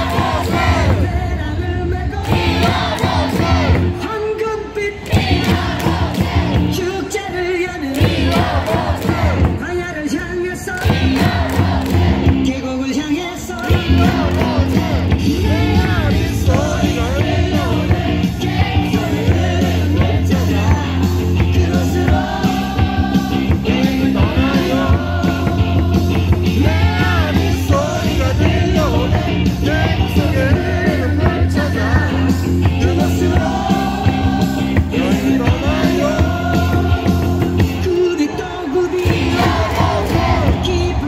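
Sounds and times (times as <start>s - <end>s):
rock song over loudspeakers: 0.0s - 41.0s.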